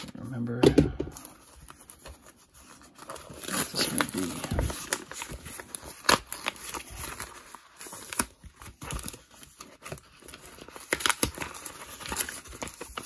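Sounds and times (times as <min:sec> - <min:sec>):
plastic mailer tearing and crinkling: 0:01.1 - 0:13.0.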